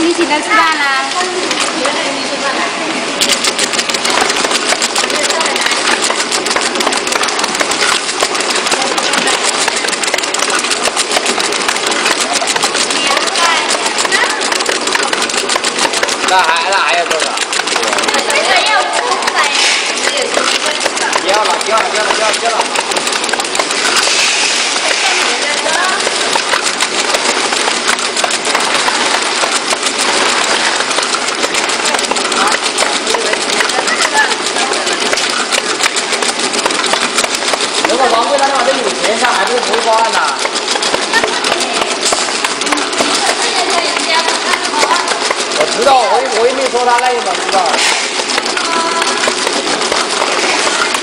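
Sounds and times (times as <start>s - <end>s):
labeling machine clattering: 0.0s - 51.0s
motor and conveyor noise: 0.0s - 51.0s
rapid mechanical ticks: 0.0s - 51.0s.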